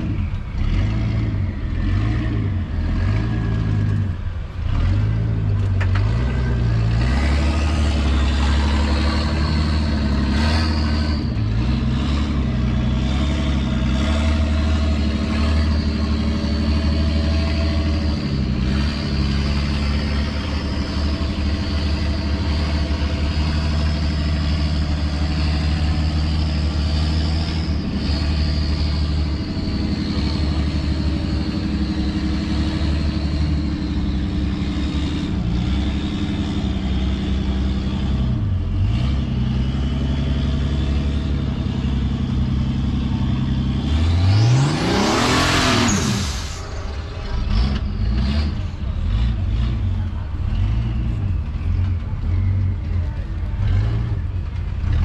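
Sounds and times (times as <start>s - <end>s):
off-road engine under load: 0.0s - 55.0s.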